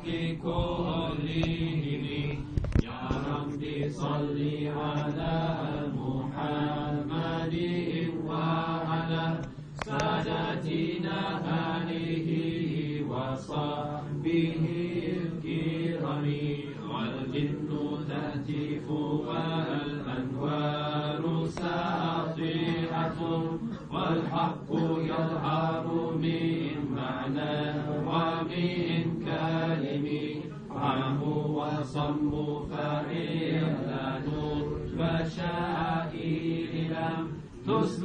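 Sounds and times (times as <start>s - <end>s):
men chanting together: 0.0s - 38.0s.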